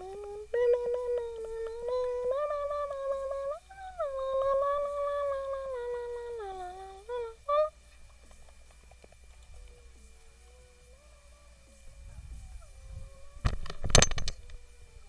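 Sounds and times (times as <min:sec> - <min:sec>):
person humming: 0:00.0 - 0:15.0.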